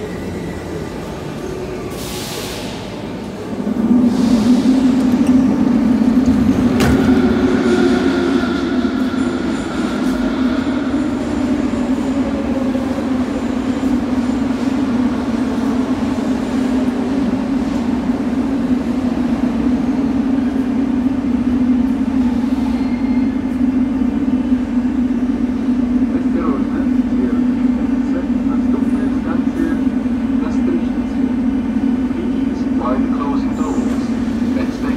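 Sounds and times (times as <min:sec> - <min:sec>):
metro train whine and hum: 0:00.0 - 0:34.9.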